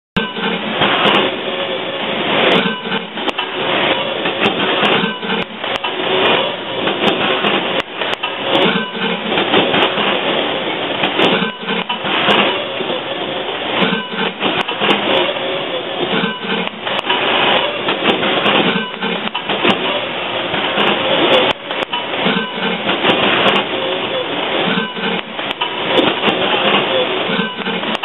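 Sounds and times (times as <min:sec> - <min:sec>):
labelling machine running: 0:00.2 - 0:28.0.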